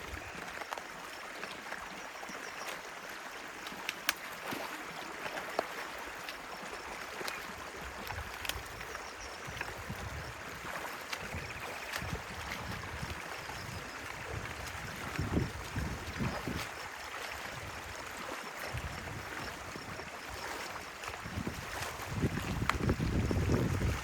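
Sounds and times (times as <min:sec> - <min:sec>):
stream water gurgling: 0:00.0 - 0:24.0.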